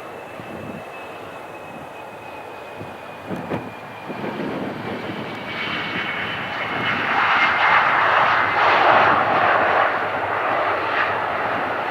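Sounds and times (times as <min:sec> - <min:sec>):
jet airliner engines roaring: 0:00.0 - 0:11.9.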